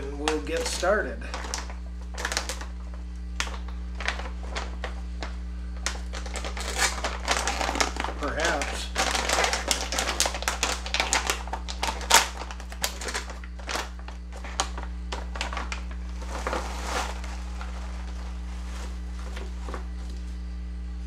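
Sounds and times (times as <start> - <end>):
foil chip bag crinkling: 0.0 - 20.4
steady low hum: 0.0 - 21.0.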